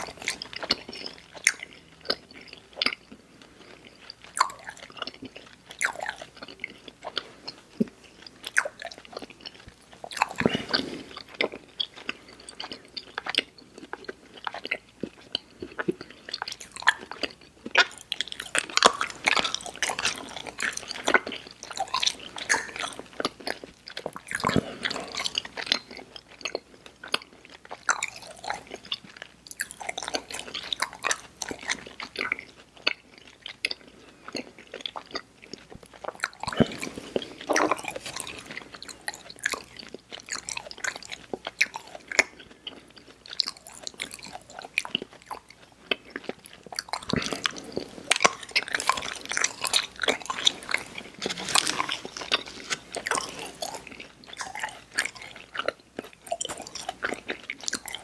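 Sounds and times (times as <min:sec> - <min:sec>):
chewing candy mouth sounds: 0:00.0 - 0:58.0.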